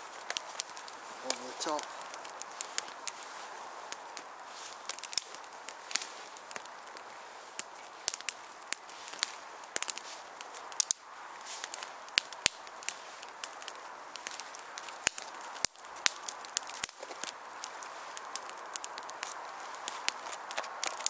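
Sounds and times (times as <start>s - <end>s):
fire crackling and popping: 0.0s - 21.0s
fire hissing: 0.0s - 21.0s.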